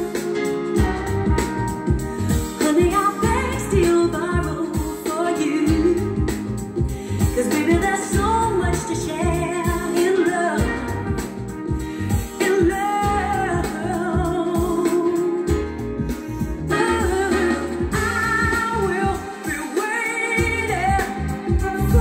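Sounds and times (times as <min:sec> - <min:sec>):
song over loudspeakers: 0:00.0 - 0:22.0.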